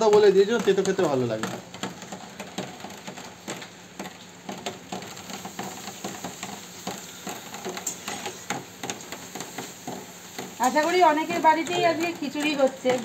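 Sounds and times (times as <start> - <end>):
hot oil sizzling with crackles: 0.0 - 13.0.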